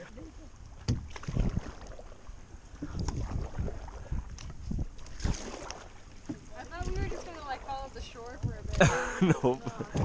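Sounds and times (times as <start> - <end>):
paddle strokes: 0.0 - 10.0
water sloshing against hull: 0.0 - 10.0
paddles knocking against canoe: 0.7 - 10.0.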